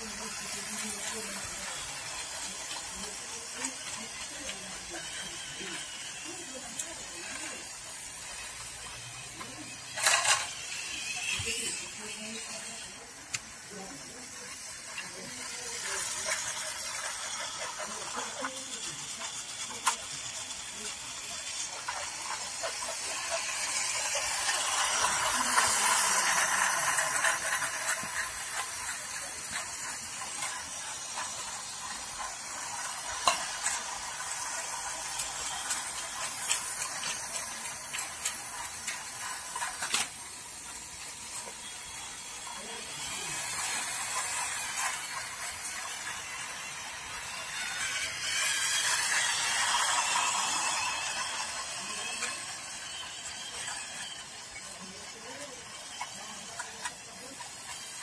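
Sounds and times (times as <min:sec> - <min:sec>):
model train rattling whirr: 0:00.0 - 0:58.0.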